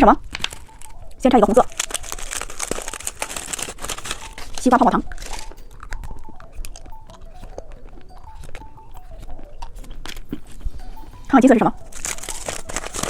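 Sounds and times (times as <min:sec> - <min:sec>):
chewing and crunching candy: 0:00.1 - 0:13.0.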